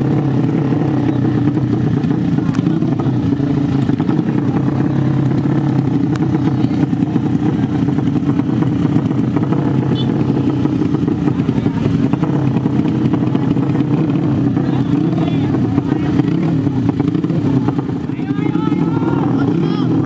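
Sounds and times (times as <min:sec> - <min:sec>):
motorcycle engines idling: 0:00.0 - 0:20.0.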